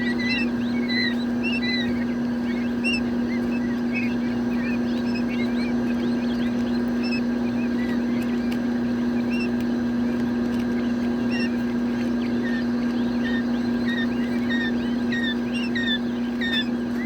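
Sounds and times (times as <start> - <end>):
chicks cheeping: 0.0 - 17.0
low machine hum: 0.0 - 17.0.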